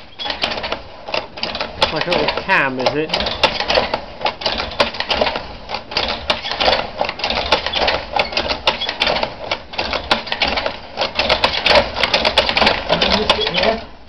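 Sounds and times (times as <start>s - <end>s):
braiding machine clattering: 0.0s - 14.0s.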